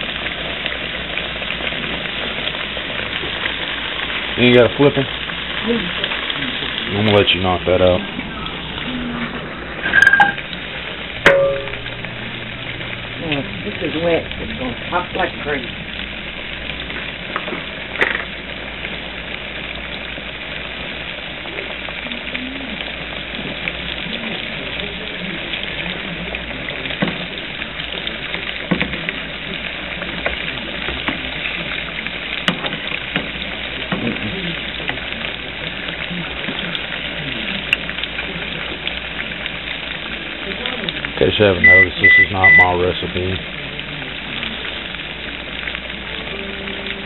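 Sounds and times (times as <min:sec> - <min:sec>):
tomato slices frying in oil: 0:00.0 - 0:47.0.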